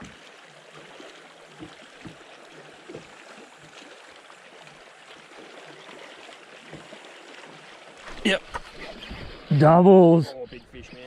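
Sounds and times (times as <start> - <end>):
small waves: 0.0 - 11.0
water slapping boat hull: 0.0 - 11.0.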